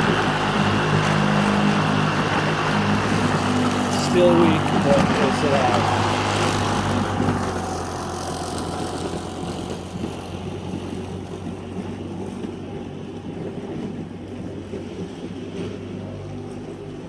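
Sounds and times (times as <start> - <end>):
electric lawnmower motor humming: 0.0 - 14.3.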